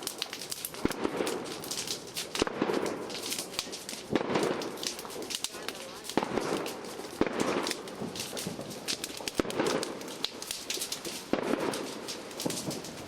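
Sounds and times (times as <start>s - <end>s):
bonfire crackling and popping: 0.0s - 13.0s
sharp fire cracks: 0.0s - 13.0s.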